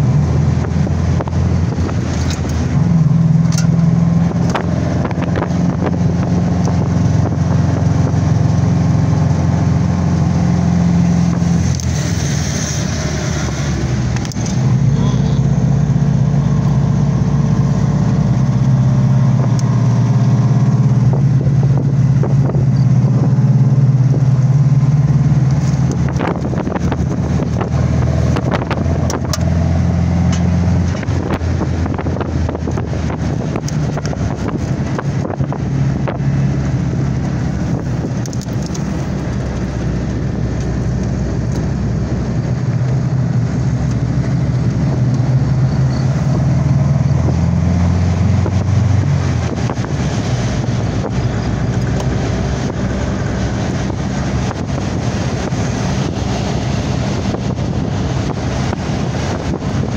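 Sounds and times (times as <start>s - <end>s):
car engine running: 0.0s - 59.9s
road noise: 0.0s - 59.9s
wind noise on microphone: 0.0s - 59.9s.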